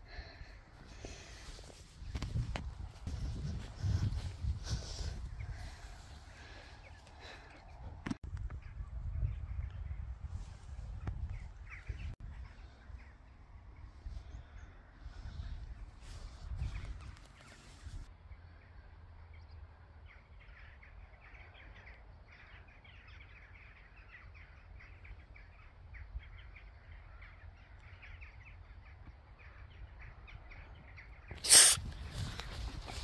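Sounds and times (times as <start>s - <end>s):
wind rumble on microphone: 0.0s - 18.1s, 24.5s - 33.0s
faint bird calls: 3.0s - 33.0s.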